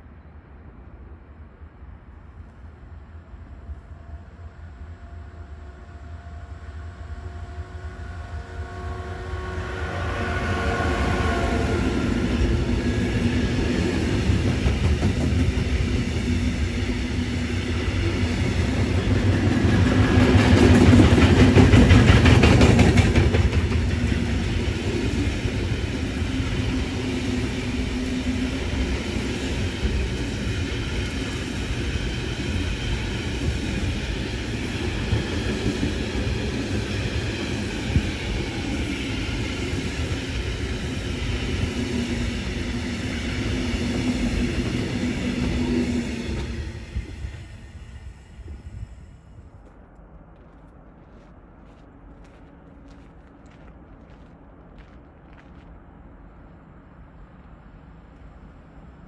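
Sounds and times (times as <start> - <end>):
electric locomotive whining: 2.7 - 50.0.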